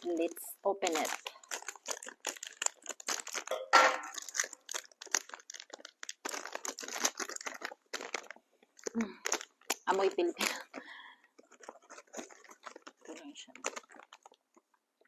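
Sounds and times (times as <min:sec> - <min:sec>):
snack packet crinkling: 0:00.0 - 0:15.0.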